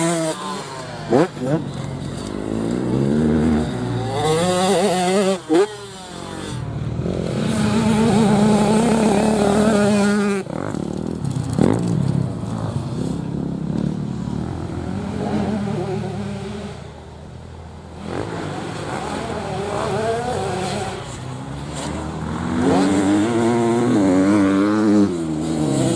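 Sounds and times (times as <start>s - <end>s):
motorcycle engine revving: 0.0s - 17.2s, 17.8s - 25.9s.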